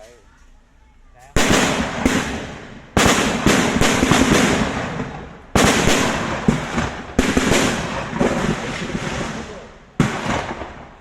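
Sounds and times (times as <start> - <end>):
explosion bangs: 1.4 - 11.0
gunfire crackle: 1.4 - 11.0.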